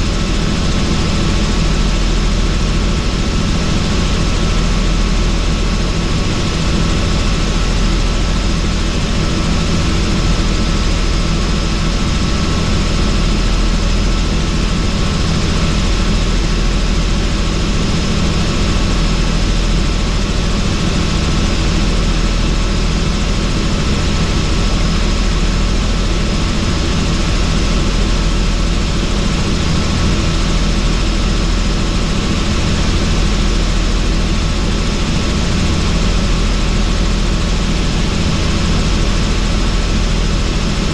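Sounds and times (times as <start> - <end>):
helicopter rotor and turbine drone: 0.0 - 40.9.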